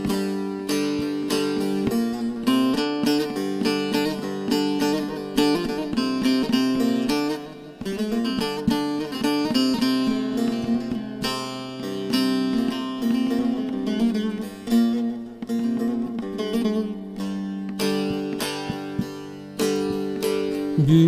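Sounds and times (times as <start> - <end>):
plucked string instruments melody: 0.0 - 21.0.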